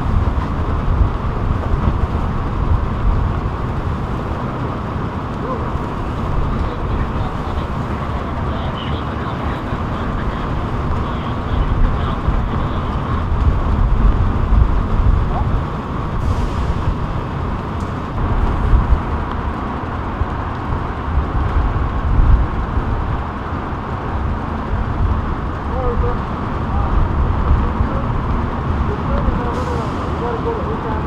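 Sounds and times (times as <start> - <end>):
city street noise with low rumble: 0.0 - 31.0.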